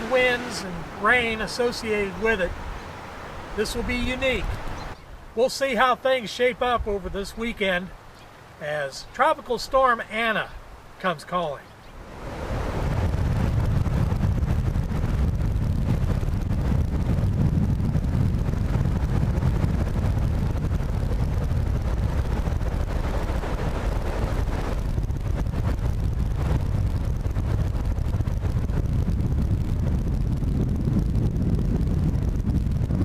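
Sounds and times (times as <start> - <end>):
wind buffeting microphone: 0.0 - 5.4, 11.8 - 33.0.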